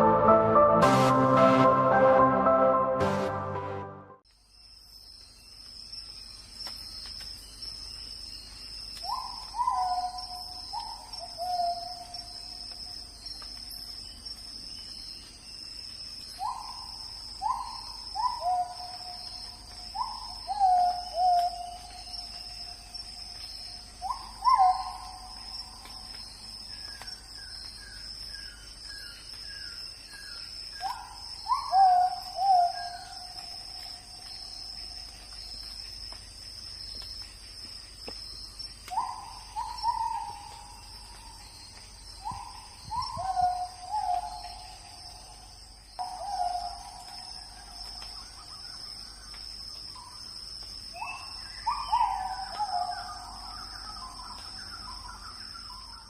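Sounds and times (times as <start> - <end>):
insects buzzing: 4.4 - 56.0.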